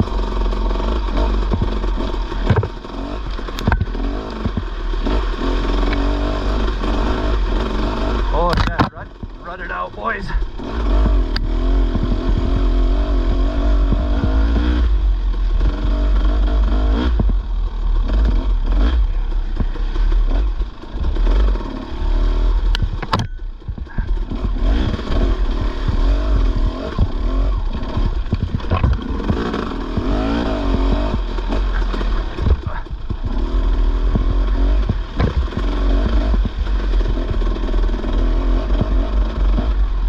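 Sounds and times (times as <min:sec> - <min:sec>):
bike rattling over rough ground: 0:00.0 - 0:40.0
dirt bike engine revving: 0:00.0 - 0:40.0.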